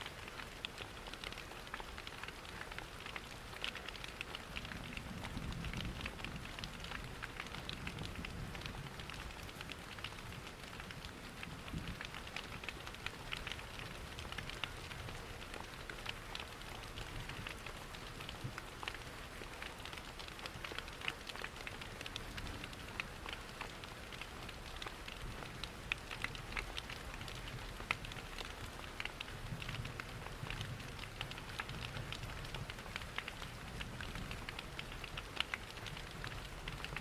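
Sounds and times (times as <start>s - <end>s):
steady rain hiss: 0.0s - 37.0s
wood fire crackling: 0.2s - 37.0s.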